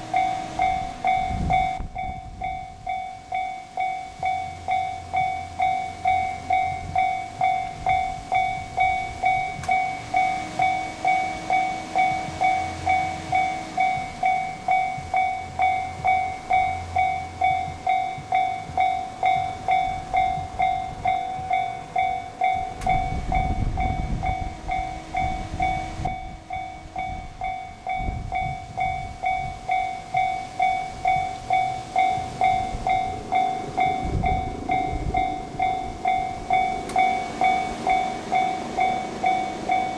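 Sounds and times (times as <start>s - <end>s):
level-crossing warning bell ringing: 0.0s - 39.9s
low rumble of diesel train: 0.0s - 39.9s.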